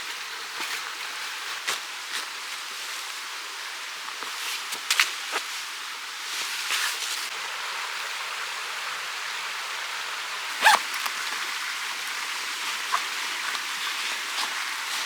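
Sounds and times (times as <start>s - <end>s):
mountain stream running: 0.0s - 15.0s.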